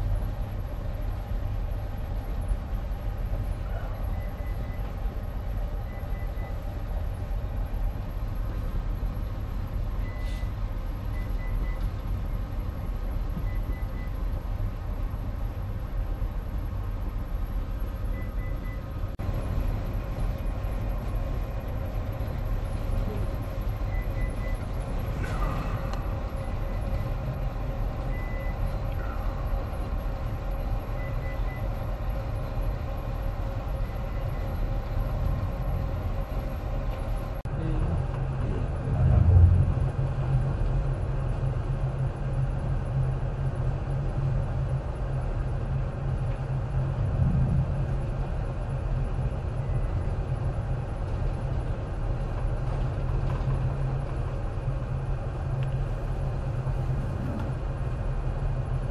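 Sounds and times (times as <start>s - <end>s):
ship machinery rumble: 0.0s - 58.9s.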